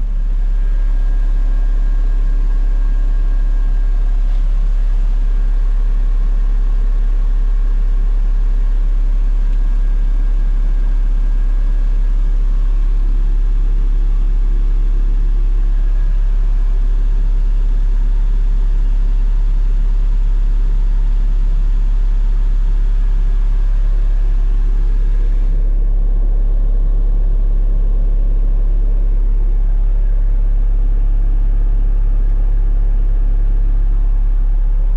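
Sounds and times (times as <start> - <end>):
skid steer engine idling: 0.0 - 34.9.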